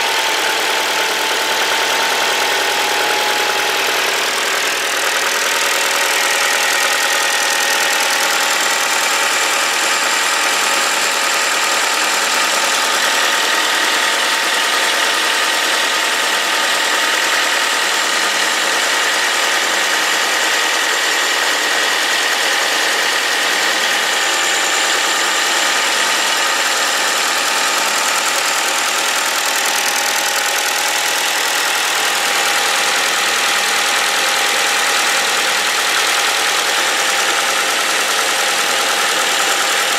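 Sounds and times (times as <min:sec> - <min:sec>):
car engine idling: 0:00.0 - 0:39.9
fuel injectors chattering: 0:00.0 - 0:39.9.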